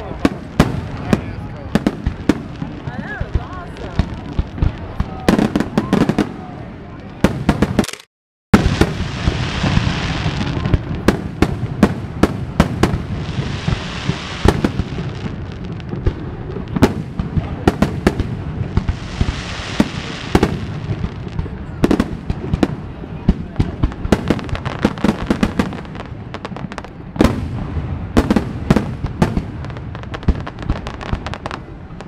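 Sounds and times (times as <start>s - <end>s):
fireworks bursting with sharp bangs: 0.0s - 32.0s
fireworks crackling and hissing: 0.0s - 32.0s.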